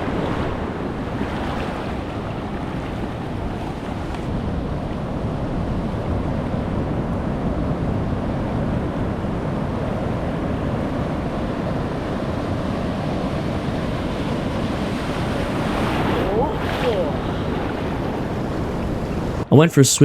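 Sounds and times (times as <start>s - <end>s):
wind on microphone: 0.0s - 19.5s
ocean waves breaking: 0.0s - 19.9s.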